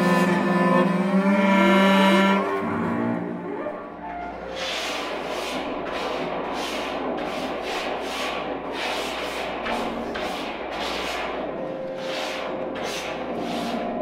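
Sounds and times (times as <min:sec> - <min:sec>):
experimental noisy music: 0:00.0 - 0:14.0.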